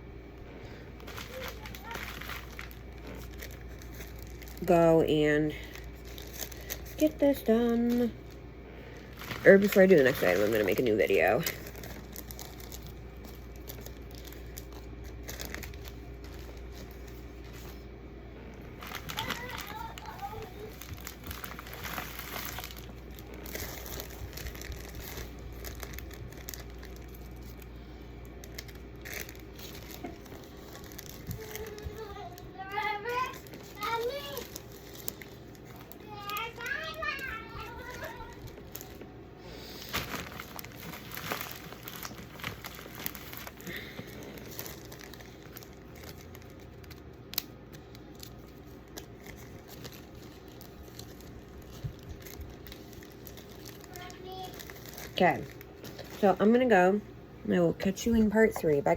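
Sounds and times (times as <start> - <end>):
faint rustles of materials: 0.3 - 56.9
plastic bags crinkling: 0.5 - 58.9.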